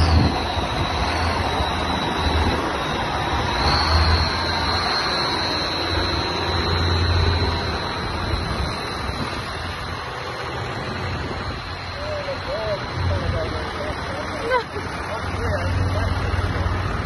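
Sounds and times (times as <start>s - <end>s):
thin steady high tone: 0.0s - 17.0s
tractor engines rumbling: 0.0s - 17.0s.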